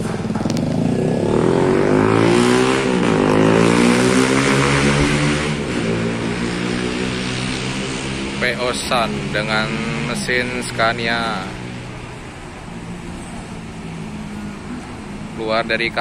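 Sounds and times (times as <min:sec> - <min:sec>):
bus diesel engine under load: 0:00.0 - 0:16.0.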